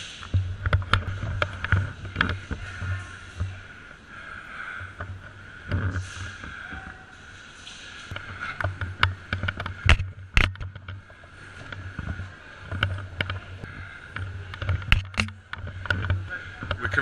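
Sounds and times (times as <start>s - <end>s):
rustling and handling noise: 0.0s - 17.0s.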